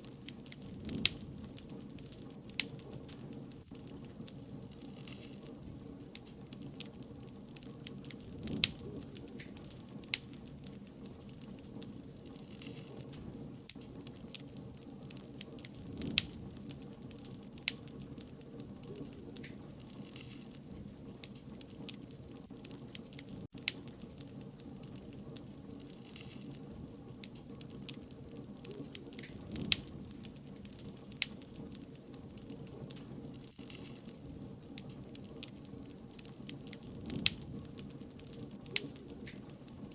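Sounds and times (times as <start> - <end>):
fire crackling and popping: 0.0 - 39.9
wood fire rumbling: 0.0 - 39.9.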